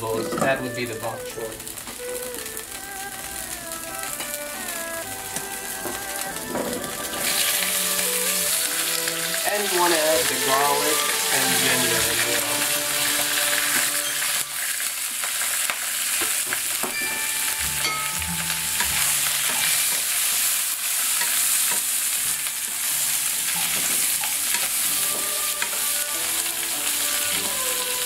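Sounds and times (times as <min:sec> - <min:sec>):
vegetables sizzling in hot oil: 0:00.0 - 0:28.0
wooden spatula scraping a wok: 0:03.3 - 0:16.8, 0:17.7 - 0:28.0.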